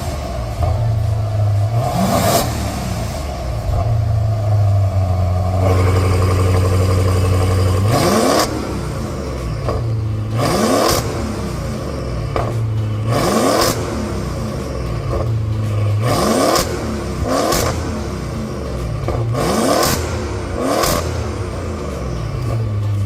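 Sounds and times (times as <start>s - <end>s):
car engine droning and revving: 0.0s - 23.0s.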